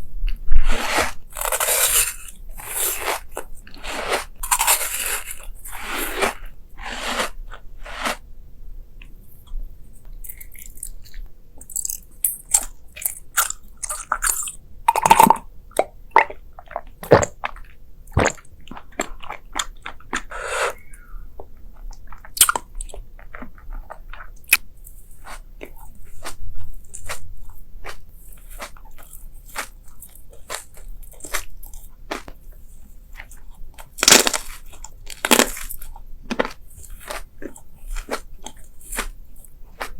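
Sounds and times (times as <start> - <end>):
crunchy food chewing: 0.3 - 8.3, 10.1 - 39.9.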